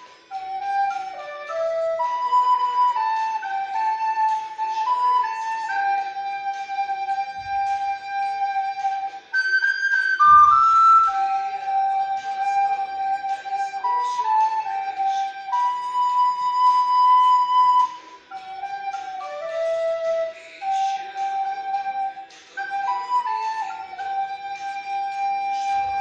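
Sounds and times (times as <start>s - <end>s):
recorder playing a melody: 0.0s - 26.0s.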